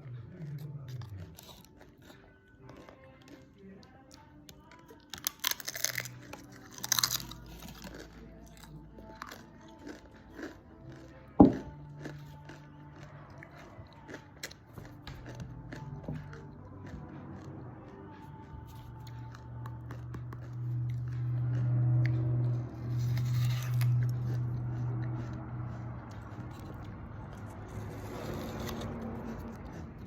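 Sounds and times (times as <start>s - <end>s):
crisp food crunching: 0.0s - 17.5s, 18.4s - 22.2s, 22.8s - 30.0s
soft background music: 0.0s - 30.0s.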